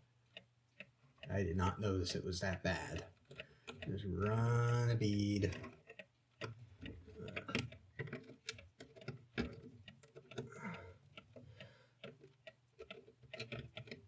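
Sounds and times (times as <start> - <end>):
mechanical clocks ticking: 0.0 - 14.0.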